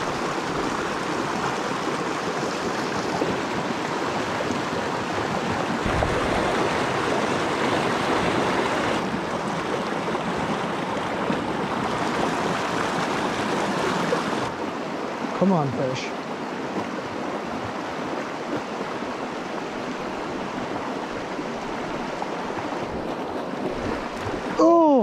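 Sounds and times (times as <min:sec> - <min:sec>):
creek rushing over rocks: 0:00.0 - 0:25.0.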